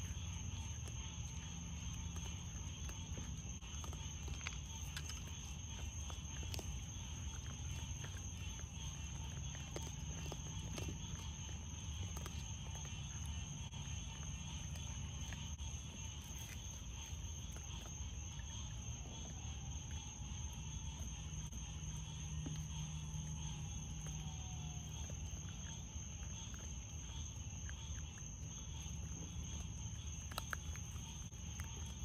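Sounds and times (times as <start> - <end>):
night insects trilling: 0.0 - 32.0
raccoons chewing food: 0.0 - 32.0.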